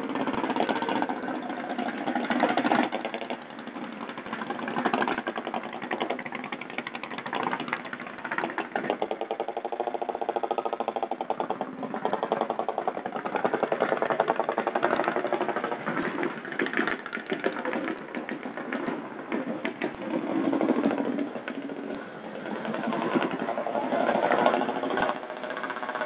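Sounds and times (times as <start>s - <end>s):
engine running with rapid beat: 0.0s - 26.0s.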